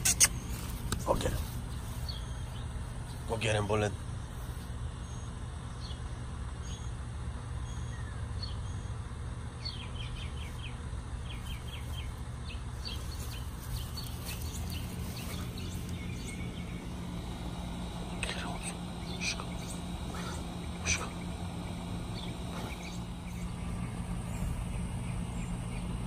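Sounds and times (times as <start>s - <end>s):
birds chirping: 0.0s - 26.0s
steady low hum: 0.0s - 26.0s.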